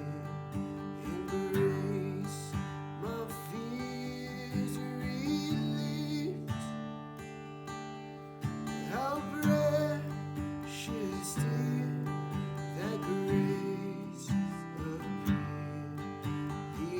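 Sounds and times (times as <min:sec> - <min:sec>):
acoustic guitar strumming chords: 0:00.0 - 0:16.9.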